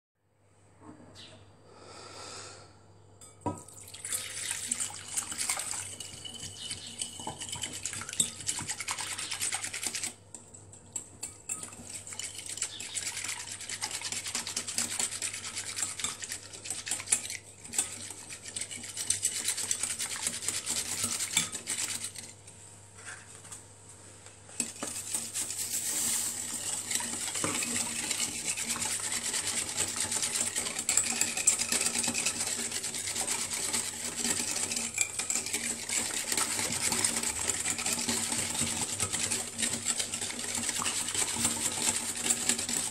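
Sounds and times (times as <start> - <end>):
whisk scraping glass bowl: 4.2 - 22.4, 24.6 - 42.9.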